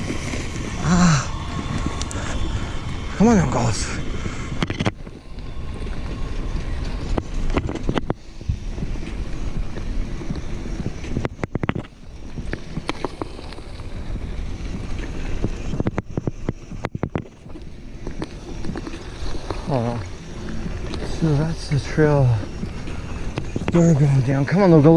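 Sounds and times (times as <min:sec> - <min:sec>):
bike rolling on dirt trail: 0:00.0 - 0:24.9
wind buffeting microphone: 0:00.0 - 0:24.9.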